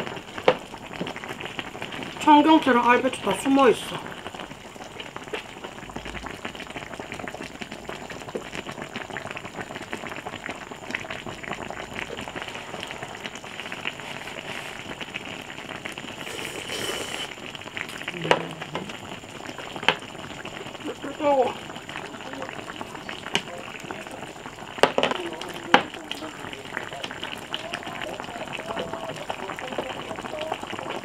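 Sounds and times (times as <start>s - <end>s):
broth bubbling: 0.0s - 31.0s.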